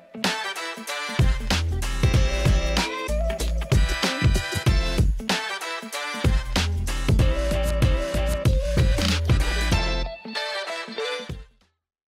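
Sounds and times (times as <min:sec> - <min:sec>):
theme music with low beat: 0:00.2 - 0:10.2.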